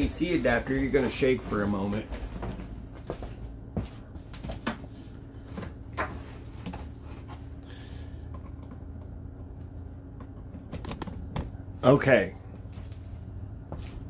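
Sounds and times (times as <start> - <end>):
low room tone hum: 0.0 - 14.0.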